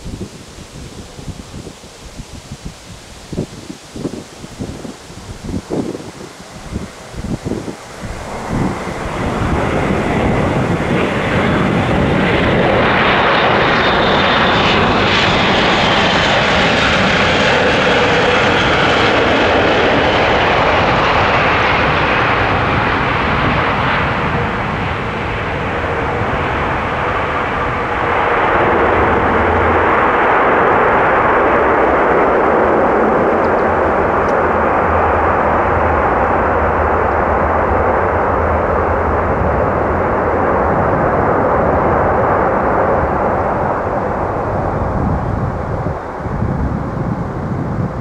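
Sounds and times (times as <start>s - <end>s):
turboprop engines and propellers: 0.0s - 48.0s.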